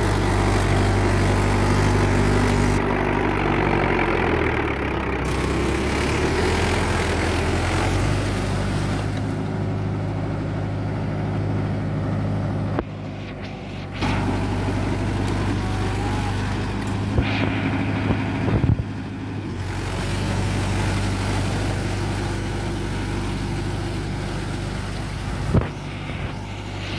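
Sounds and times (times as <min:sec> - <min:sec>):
diesel tractor engine running: 0:00.0 - 0:26.9.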